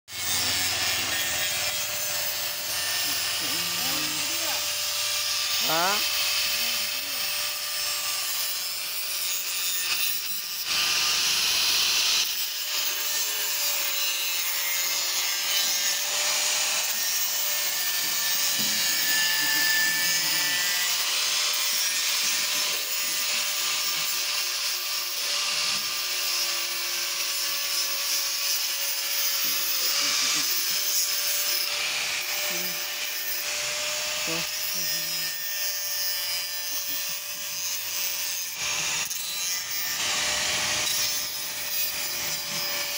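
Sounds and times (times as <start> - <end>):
angle grinder grinding metal: 0.1 - 42.9.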